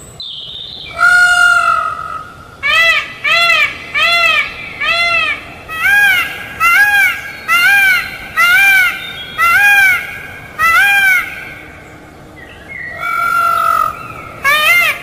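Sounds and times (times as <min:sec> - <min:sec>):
peacock calling: 0:00.3 - 0:15.0.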